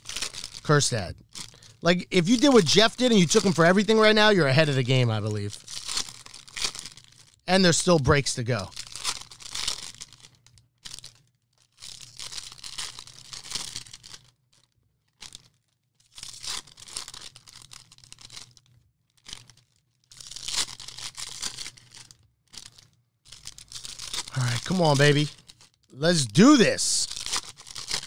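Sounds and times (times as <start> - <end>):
wrappers tearing and crinkling: 0.0 - 28.0.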